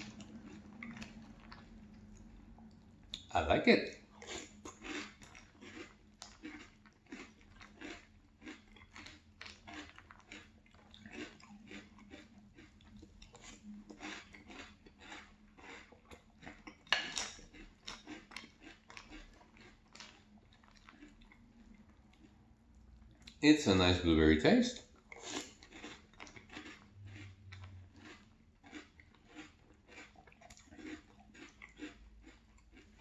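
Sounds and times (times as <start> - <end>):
chewing crunchy cereal: 0.0 - 33.0.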